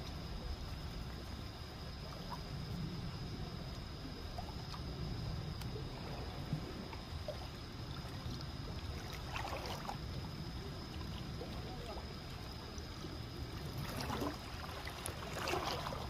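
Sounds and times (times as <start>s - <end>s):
faint high whine: 0.0s - 16.0s
small waves lapping: 0.0s - 16.0s
steady low rumble: 0.0s - 16.0s.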